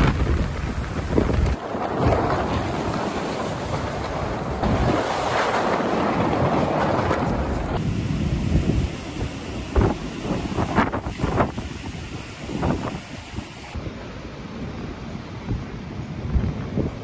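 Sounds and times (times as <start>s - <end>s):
strong gusty wind buffeting microphone: 0.0s - 17.0s.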